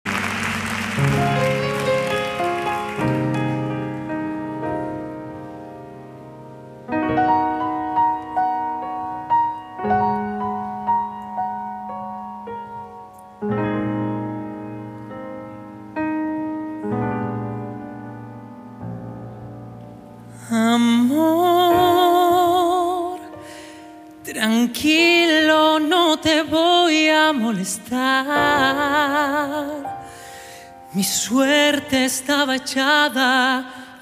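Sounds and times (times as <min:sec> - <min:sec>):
grand piano chords: 0:00.0 - 0:34.0.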